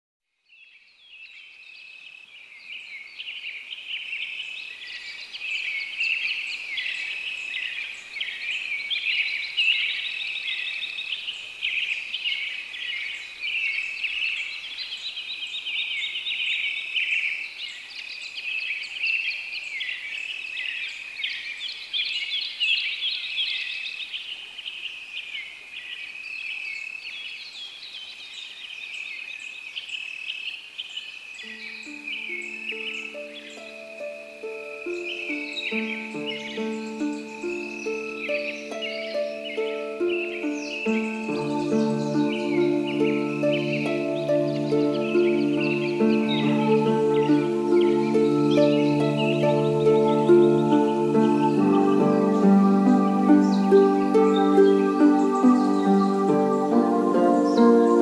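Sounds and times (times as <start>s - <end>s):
small birds chirping: 0.4s - 58.0s.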